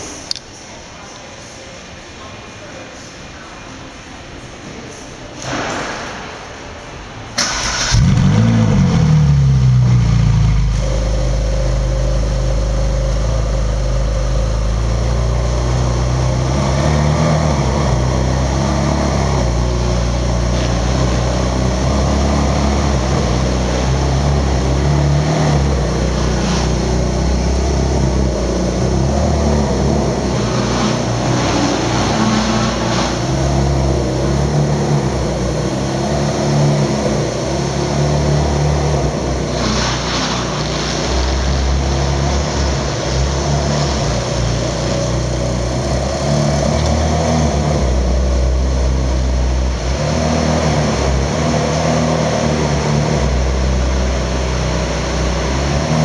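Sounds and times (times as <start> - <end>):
car engine starting and idling: 5.3 - 56.0.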